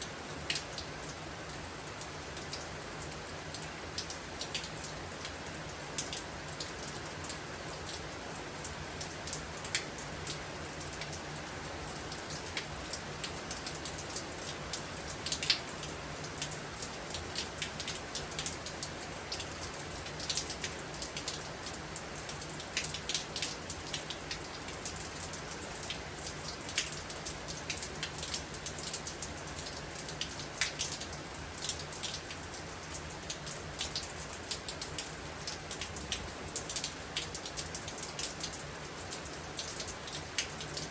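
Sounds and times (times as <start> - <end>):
raindrops ticking on hard surface: 0.0 - 40.9.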